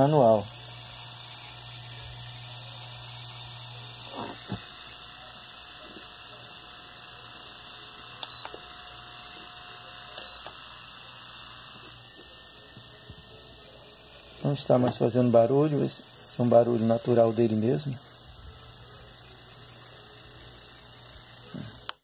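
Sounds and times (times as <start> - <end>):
electric fan motor humming: 0.0 - 22.0.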